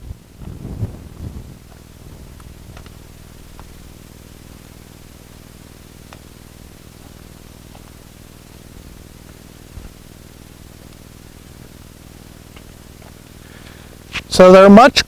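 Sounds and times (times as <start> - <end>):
steady hiss with low hum: 0.0 - 15.0
soft footsteps on gravel: 0.4 - 14.3.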